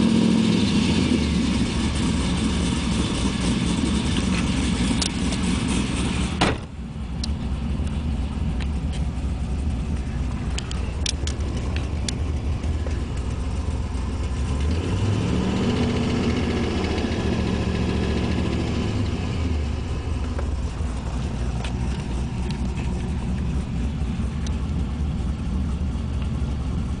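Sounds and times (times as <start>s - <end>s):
car engine idling with tick: 0.0s - 27.0s.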